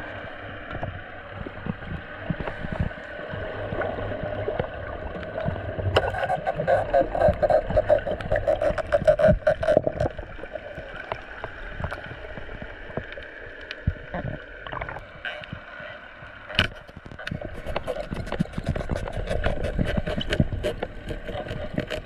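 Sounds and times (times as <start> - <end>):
steady underwater hum: 0.0 - 22.0
sharp underwater clicks and crackles: 0.2 - 22.0.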